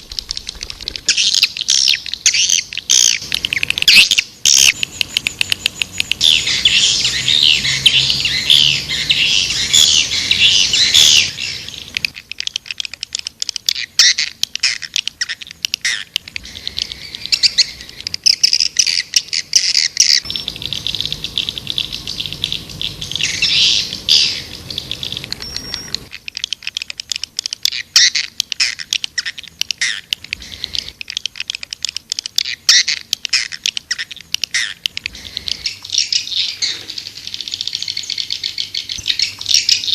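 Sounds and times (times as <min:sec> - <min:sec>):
swiftlets twittering and clicking: 0:00.0 - 0:39.9.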